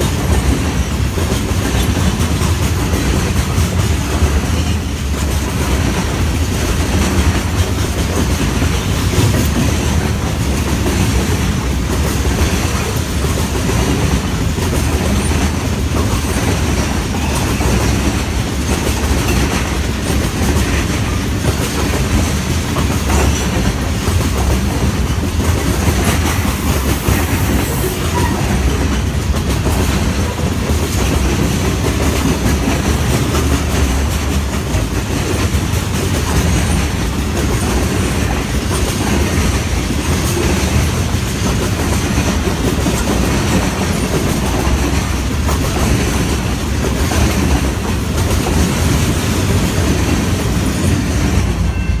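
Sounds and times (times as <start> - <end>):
wheels clicking over rail joints: 0.0 - 51.9.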